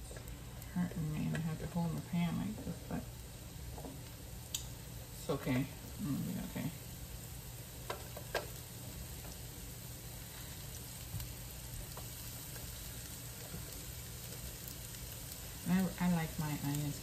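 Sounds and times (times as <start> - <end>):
onion rings sizzling in oil: 0.0 - 17.0.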